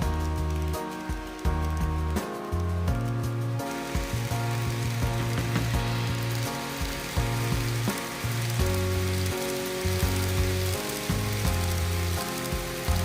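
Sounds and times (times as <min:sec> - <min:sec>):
model train wheels clicking: 0:00.1 - 0:13.0.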